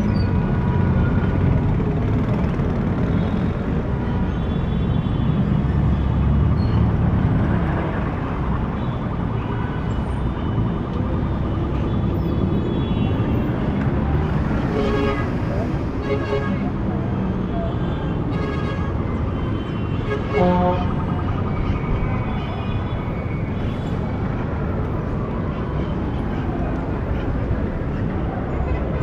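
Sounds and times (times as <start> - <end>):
cars and trucks passing: 0.0 - 29.0.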